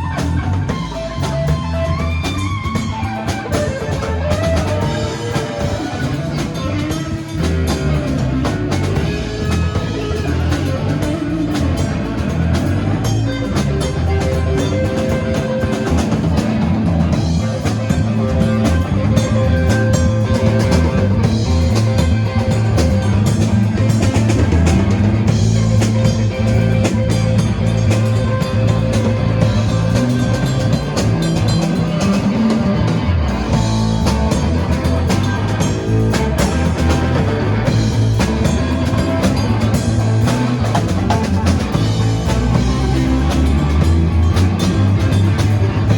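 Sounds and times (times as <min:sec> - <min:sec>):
drum kit: 0:00.0 - 0:45.9
electric guitar: 0:00.0 - 0:45.9
walking bass line: 0:00.0 - 0:45.9.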